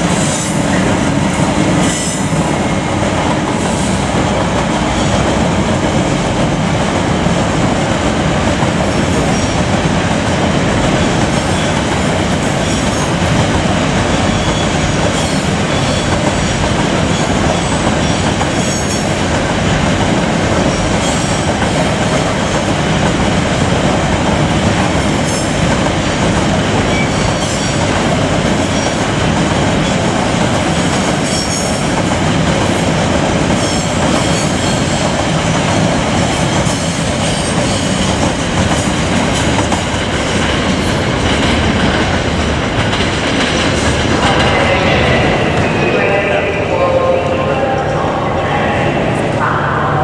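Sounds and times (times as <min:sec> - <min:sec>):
steel wheels running on rails: 0:00.0 - 0:46.6.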